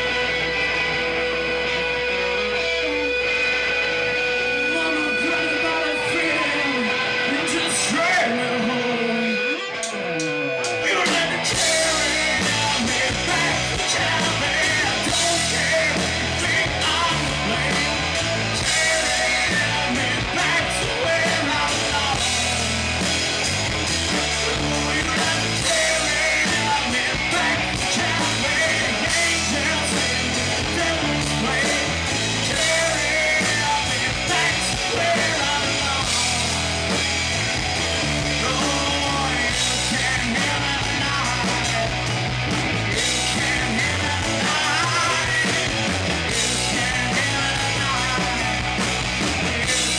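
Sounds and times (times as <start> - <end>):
bass guitar: 0.0 - 49.9
distorted electric guitars: 0.0 - 49.9
drums: 0.0 - 49.9
man singing lead vocals: 0.0 - 49.9.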